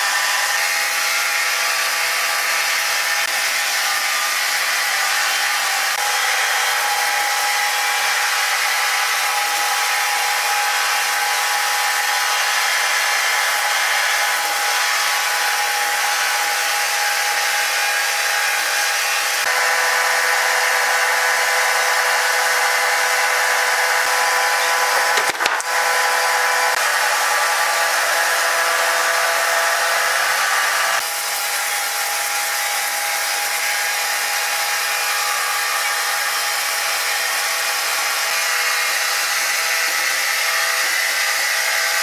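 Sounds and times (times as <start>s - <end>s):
sawmill saw whining: 0.0s - 42.0s.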